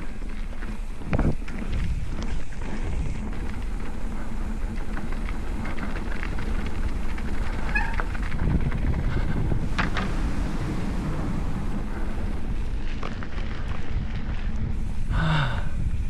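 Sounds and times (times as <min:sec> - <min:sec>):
tyres crunching over gravel: 0:00.0 - 0:15.8
bike rattling and clicking: 0:00.0 - 0:16.0.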